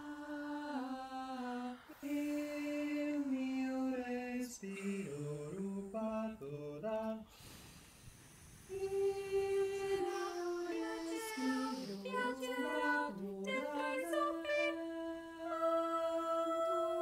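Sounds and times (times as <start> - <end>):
mixed choir singing a cappella: 0.0 - 7.3, 8.6 - 17.0.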